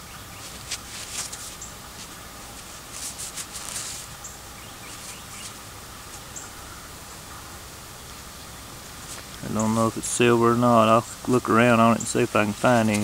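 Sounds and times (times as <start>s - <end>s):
gloved hand rustling: 0.4s - 6.7s, 8.8s - 13.0s.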